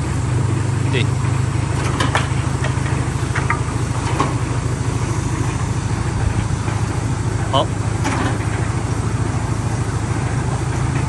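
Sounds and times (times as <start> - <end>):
wood chipper engine drone: 0.0 - 11.0.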